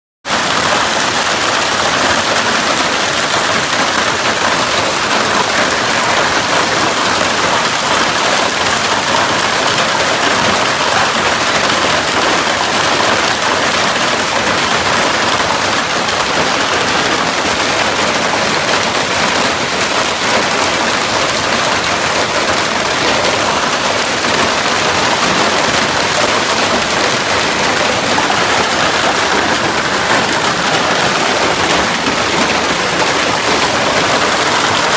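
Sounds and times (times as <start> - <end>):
hail clattering: 0.3 - 34.9.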